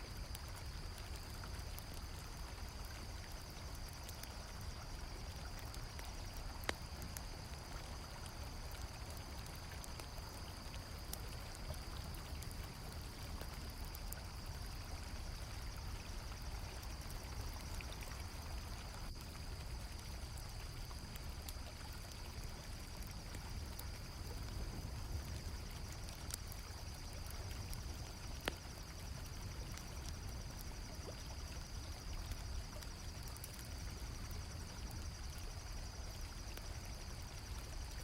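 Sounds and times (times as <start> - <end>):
campfire crackling: 0.0 - 38.0
crickets trilling: 0.0 - 38.0.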